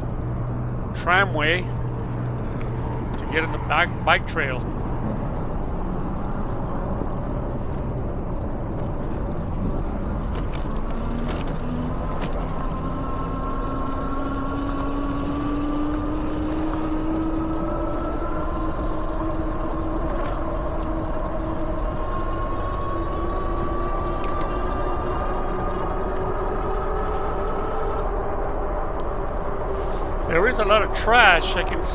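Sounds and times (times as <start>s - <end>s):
wind and tyre rumble: 0.0s - 1.0s, 4.4s - 30.7s.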